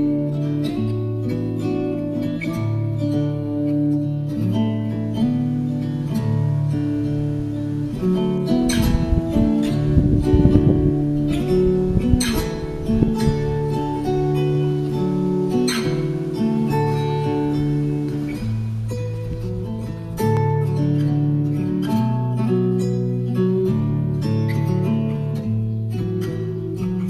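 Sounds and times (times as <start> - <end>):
acoustic guitar chords: 0.0 - 27.0
sharp guitar strums: 0.0 - 27.0.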